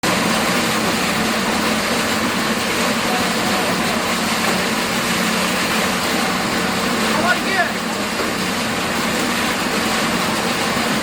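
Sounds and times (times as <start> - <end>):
constant rushing noise: 0.0 - 11.0
ship engine low hum: 0.0 - 11.0.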